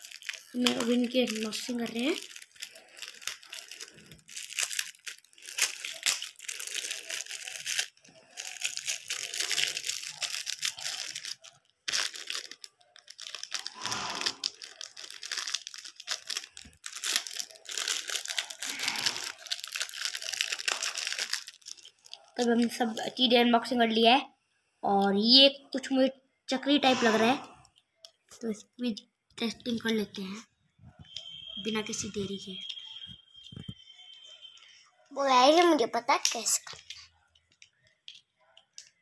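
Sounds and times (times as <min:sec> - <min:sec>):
plastic packets crinkling and tearing: 0:00.0 - 0:23.2, 0:30.9 - 0:39.0.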